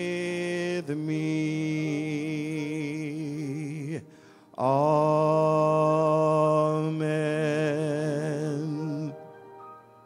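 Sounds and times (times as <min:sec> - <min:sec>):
man singing a hymn: 0:00.0 - 0:09.3
piano: 0:00.0 - 0:10.0.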